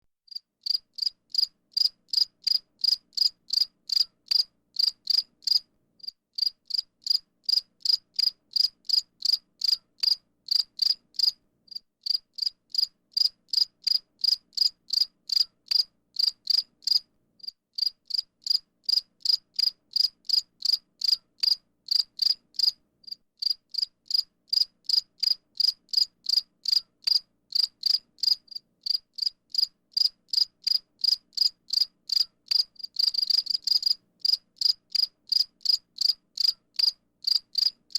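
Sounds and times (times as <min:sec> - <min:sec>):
cricket chirping: 0:00.3 - 0:37.9.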